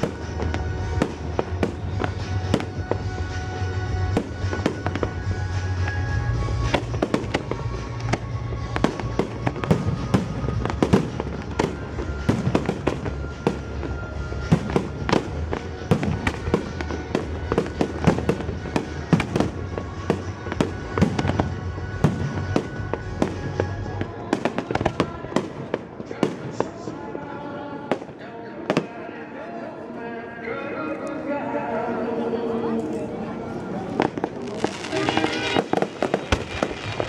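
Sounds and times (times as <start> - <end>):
music playing: 0.0 - 25.7, 29.5 - 37.0
fireworks bangs and crackles: 0.0 - 29.0, 32.1 - 37.0.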